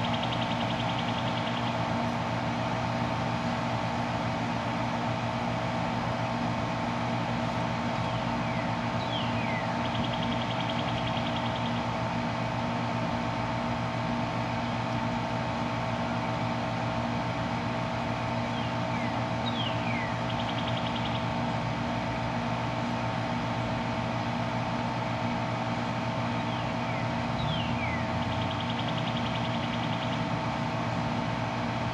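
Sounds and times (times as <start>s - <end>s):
air conditioner unit humming: 0.0s - 31.9s.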